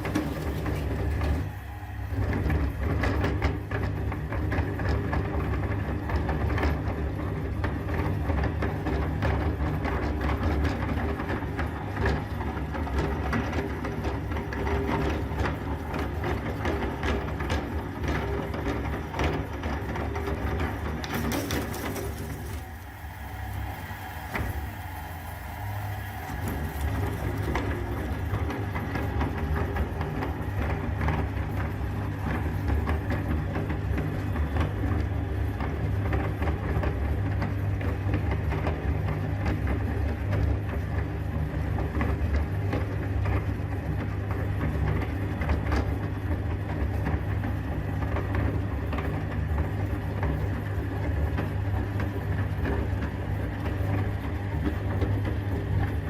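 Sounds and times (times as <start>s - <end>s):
meat grinder motor hum: 0.0s - 56.0s.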